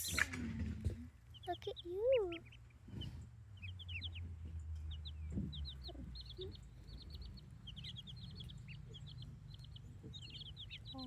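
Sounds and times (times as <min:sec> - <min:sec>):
chicks and ducklings peeping: 0:00.0 - 0:11.0.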